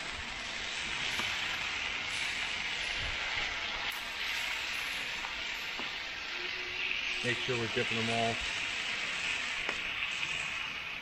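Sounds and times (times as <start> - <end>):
chicken sizzling on a griddle: 0.0 - 11.0.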